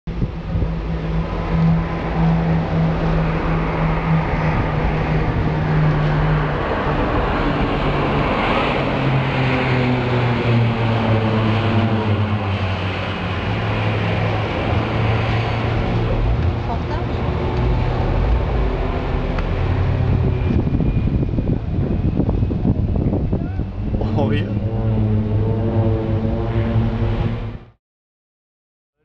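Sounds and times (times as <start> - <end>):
rush of noise: 0.1 - 27.8
turboprop aircraft droning overhead: 0.1 - 27.8.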